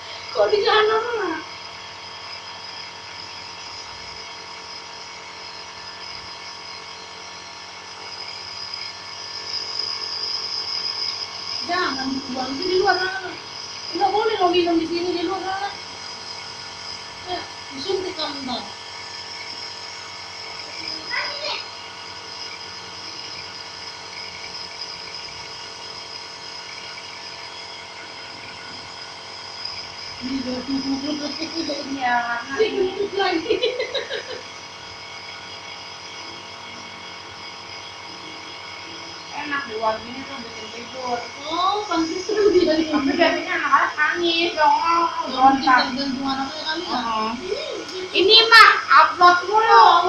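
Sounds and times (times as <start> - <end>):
nebulizer compressor humming: 0.0 - 50.0.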